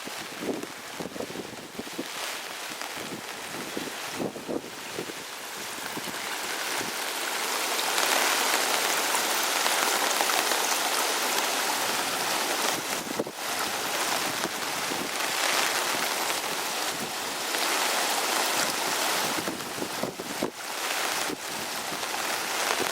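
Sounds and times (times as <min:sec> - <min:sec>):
floodwater rushing: 0:00.0 - 0:22.9
heavy rain: 0:00.0 - 0:22.9.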